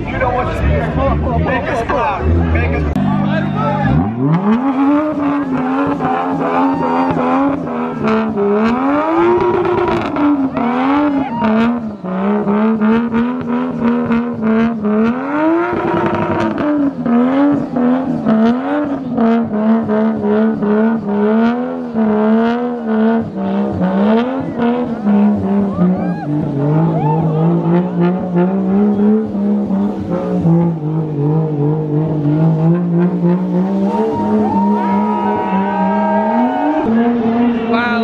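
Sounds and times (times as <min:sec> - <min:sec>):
car engine revving hard: 0:00.1 - 0:38.0.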